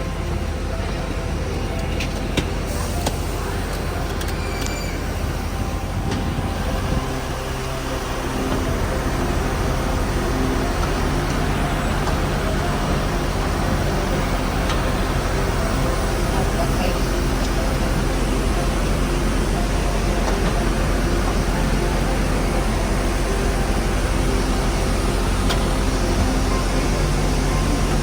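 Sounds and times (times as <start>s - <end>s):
bus engine hum: 0.0s - 28.0s
road noise: 0.0s - 28.0s
vehicle running rumble and hiss: 0.0s - 28.0s.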